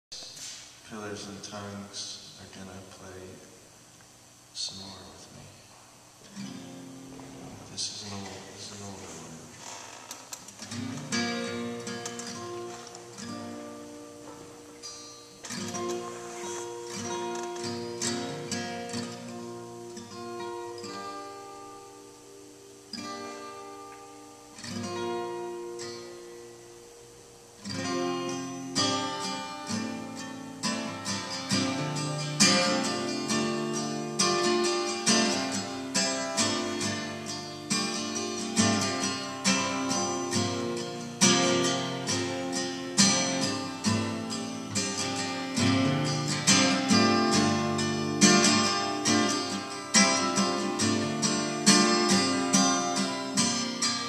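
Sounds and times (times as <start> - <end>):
acoustic guitar playing: 0.1 - 54.0.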